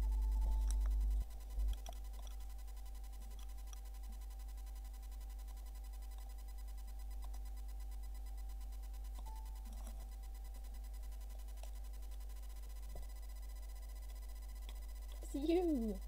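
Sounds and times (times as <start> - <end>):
faint whining tones: 0.0 - 16.0
low electrical hum: 0.0 - 16.0.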